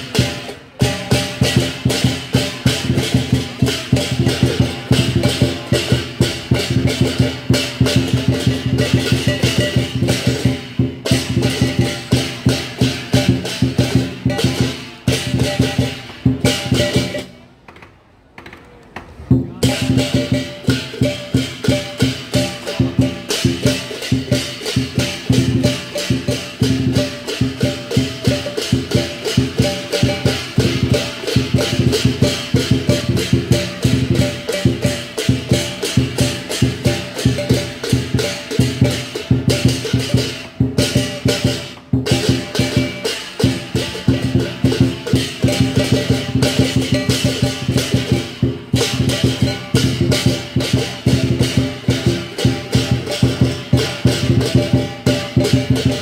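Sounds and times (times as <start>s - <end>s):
drum cymbals and gong band: 0.0s - 17.7s, 19.1s - 56.0s.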